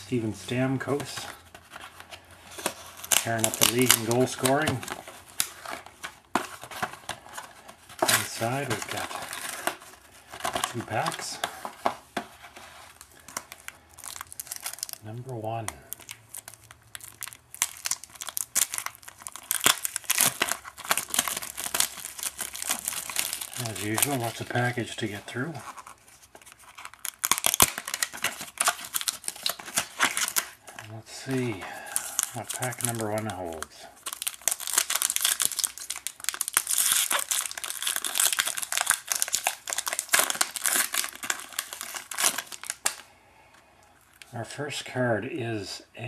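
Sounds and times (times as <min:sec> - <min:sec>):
packaging tearing and crinkling: 0:00.5 - 0:43.1.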